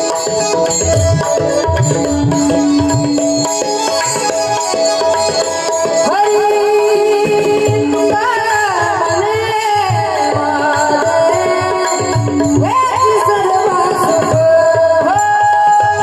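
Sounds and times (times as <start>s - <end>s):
tabla drumming: 0.0s - 16.0s.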